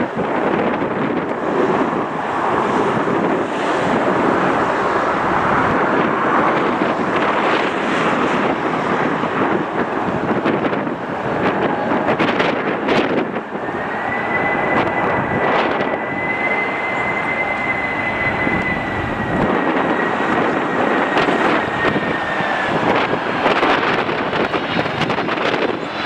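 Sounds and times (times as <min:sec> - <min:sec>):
jet engine rushing and whining: 0:00.0 - 0:26.0
wind buffeting microphone: 0:00.0 - 0:26.0.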